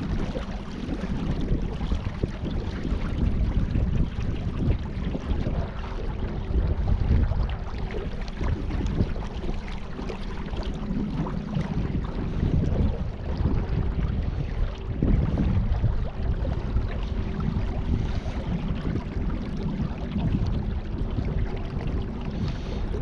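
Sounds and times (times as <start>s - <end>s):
faint steady hum: 0.0s - 23.0s
wind buffeting microphone: 0.0s - 23.0s.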